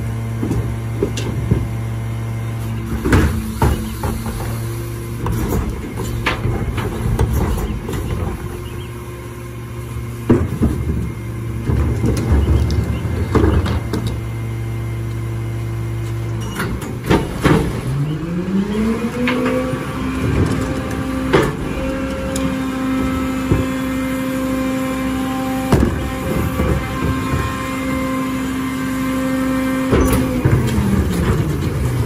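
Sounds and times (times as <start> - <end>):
carts and metal banging: 0.0 - 32.0
diesel engine idling: 0.0 - 32.0
hydraulics running: 0.0 - 32.0.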